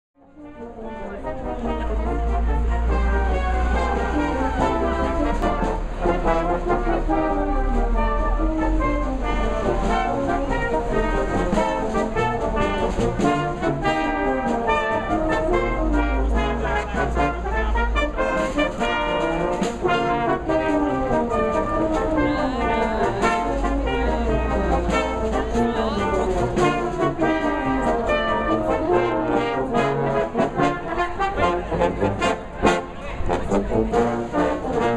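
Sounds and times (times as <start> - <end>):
brass band playing: 0.2 - 34.9.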